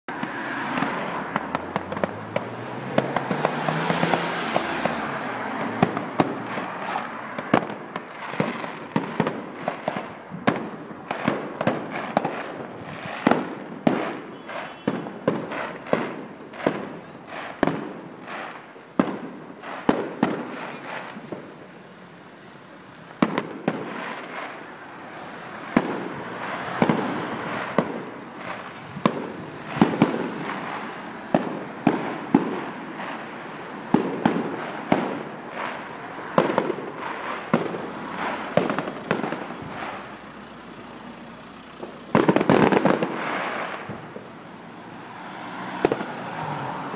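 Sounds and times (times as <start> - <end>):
fireworks bangs and cracks: 0.1 - 46.9
fireworks hiss: 0.1 - 46.9.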